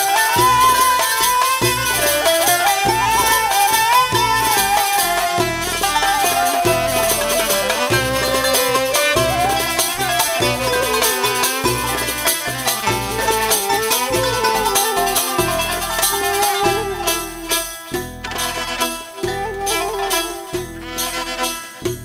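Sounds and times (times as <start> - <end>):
gliding melody line: 0.0 - 20.6
bass notes: 0.0 - 22.0
jingling percussion strokes: 0.0 - 22.0
plucked strings: 0.0 - 22.0
rattling percussion: 0.0 - 22.0.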